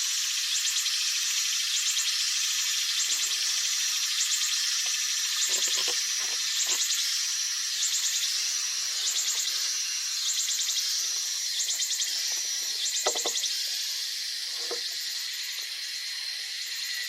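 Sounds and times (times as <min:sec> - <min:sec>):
insects chorus pulsing: 0:00.0 - 0:17.0.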